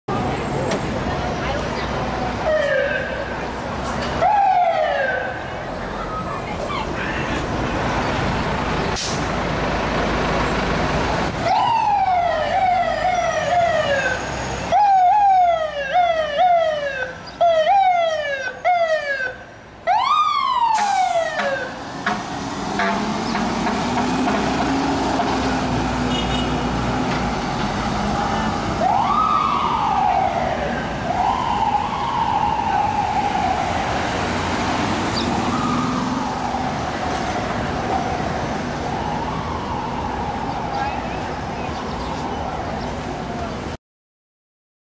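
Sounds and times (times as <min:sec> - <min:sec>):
traffic noise: 0:00.1 - 0:43.8
fire engine siren: 0:02.4 - 0:03.4, 0:04.2 - 0:06.2, 0:10.0 - 0:43.2.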